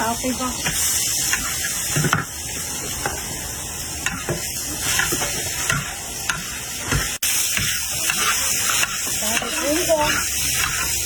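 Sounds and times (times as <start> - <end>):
oil sizzling in a wok: 0.0 - 11.0
spatula scraping a wok: 0.5 - 3.3, 4.0 - 11.0.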